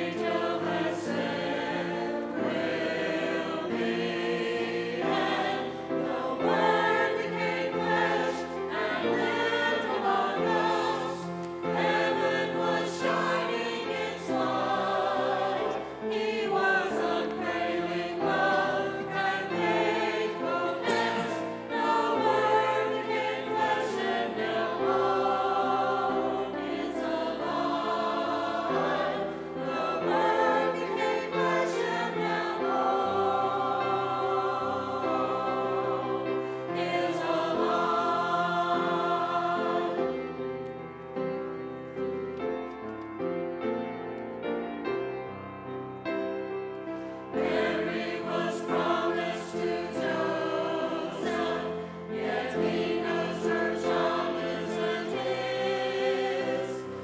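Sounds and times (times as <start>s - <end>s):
voices singing a hymn: 0.0s - 42.1s, 46.6s - 57.0s.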